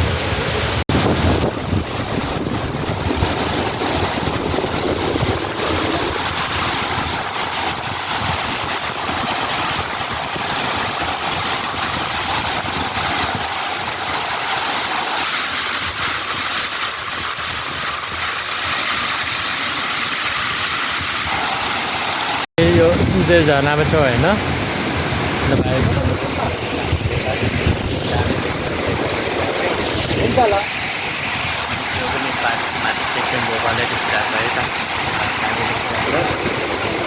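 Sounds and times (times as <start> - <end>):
waterfall rushing: 0.0 - 37.0
wind noise on microphone: 0.0 - 37.0.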